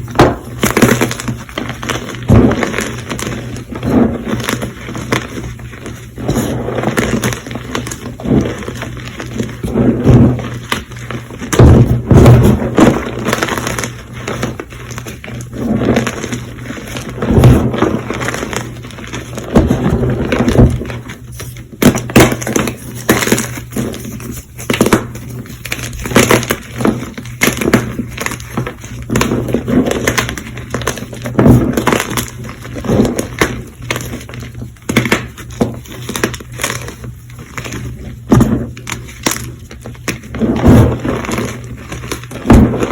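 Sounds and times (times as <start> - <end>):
chalk being crushed: 0.0 - 42.9.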